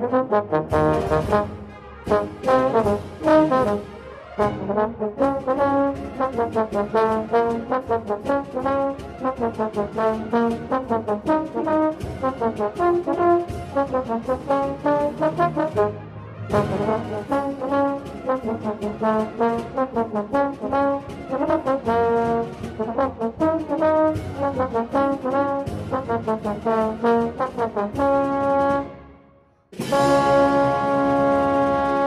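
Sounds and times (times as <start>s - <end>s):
band playing a fast march: 0.0s - 29.0s, 29.8s - 32.0s
bass trombone notes: 0.0s - 29.2s, 29.8s - 32.0s.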